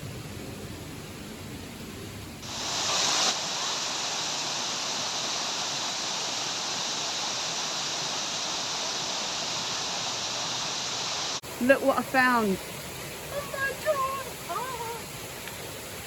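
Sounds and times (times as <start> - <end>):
water flowing: 2.1 - 16.0.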